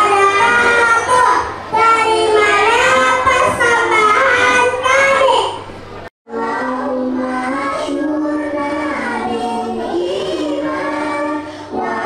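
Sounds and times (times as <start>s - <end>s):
girls singing together: 0.0s - 5.6s, 6.3s - 12.0s.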